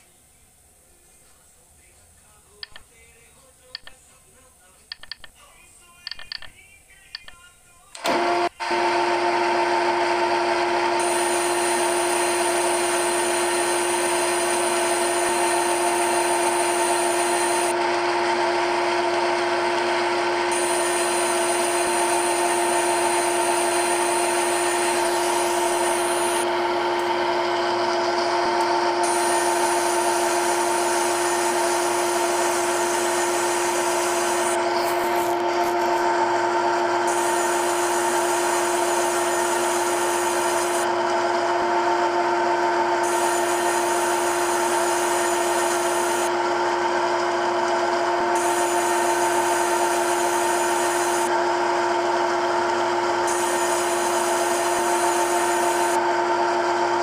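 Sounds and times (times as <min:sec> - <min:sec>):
simulated lathe machining hum: 0:08.0 - 0:57.0.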